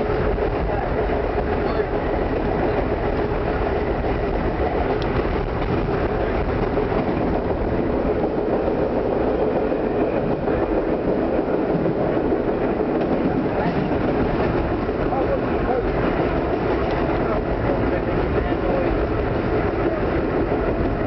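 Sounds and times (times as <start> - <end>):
subway train rumbling in tunnel: 0.0 - 21.0.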